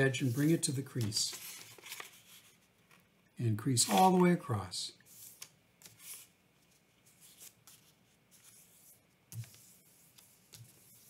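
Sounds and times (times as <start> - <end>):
paper rustling and creasing: 0.0 - 3.0, 3.7 - 4.4, 5.1 - 11.0.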